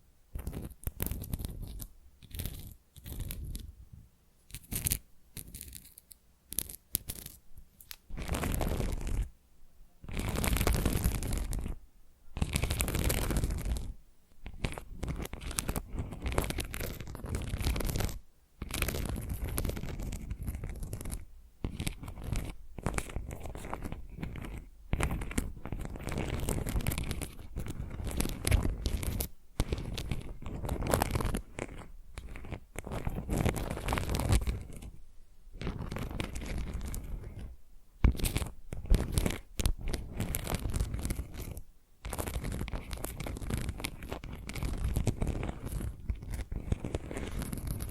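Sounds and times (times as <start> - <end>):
fingernails scratching tile: 0.4 - 3.7, 4.5 - 9.3, 10.0 - 11.8, 12.4 - 35.0, 35.6 - 47.9.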